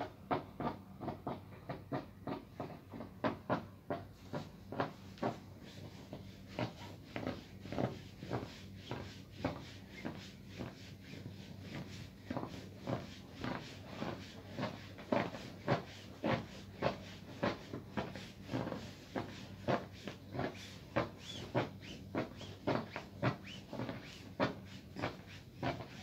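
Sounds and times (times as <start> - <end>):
garment steamer hum: 0.0 - 26.0.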